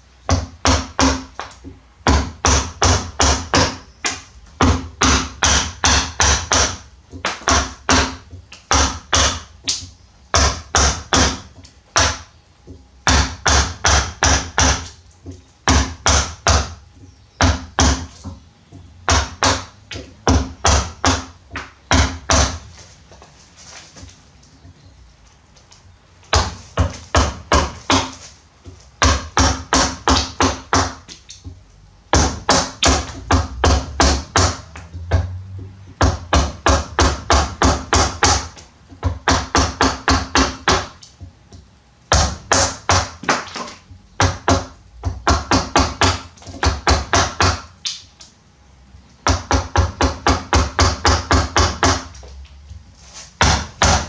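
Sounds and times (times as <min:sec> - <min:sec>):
rapid tapping on wood: 0:00.3 - 0:22.6, 0:26.3 - 0:47.7, 0:49.2 - 0:52.2, 0:53.4 - 0:54.0.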